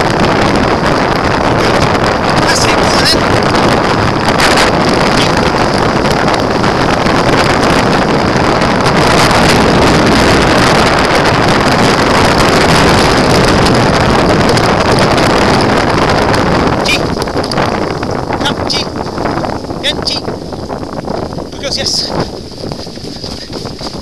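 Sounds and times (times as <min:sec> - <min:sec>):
wheels rolling on wet tarmac: 0:00.0 - 0:19.8
wind buffeting microphone: 0:00.0 - 0:24.0.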